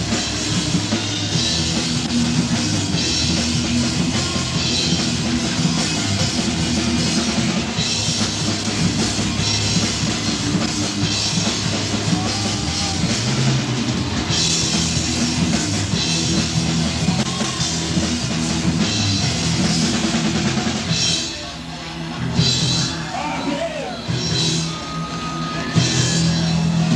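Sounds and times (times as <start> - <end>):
heavy metal band playing: 0.0 - 26.9.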